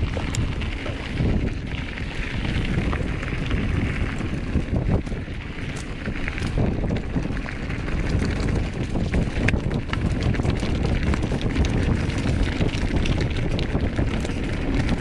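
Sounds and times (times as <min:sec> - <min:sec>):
bike clicks and rattles: 0:00.0 - 0:15.0
tyres rolling on dirt and stones: 0:00.0 - 0:15.0
wind buffeting microphone: 0:00.0 - 0:15.0.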